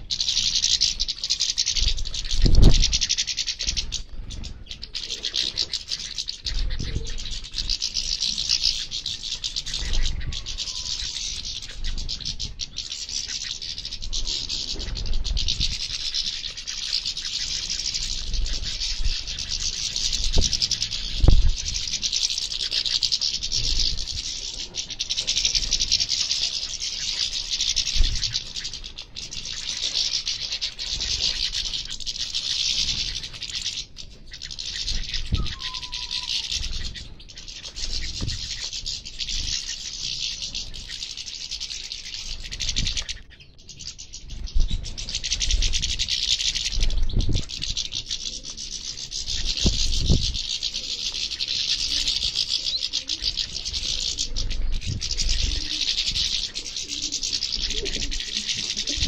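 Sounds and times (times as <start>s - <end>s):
finches twittering and singing: 0.0s - 59.0s.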